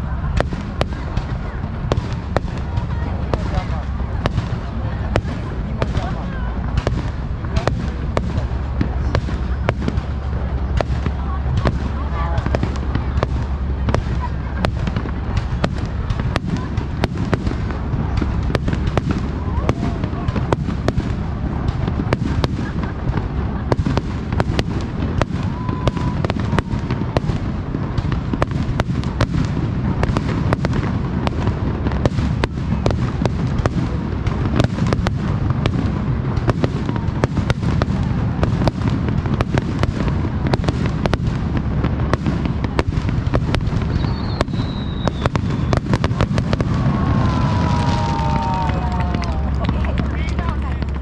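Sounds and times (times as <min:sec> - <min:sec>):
fireworks bursting and crackling: 0:00.0 - 0:51.0.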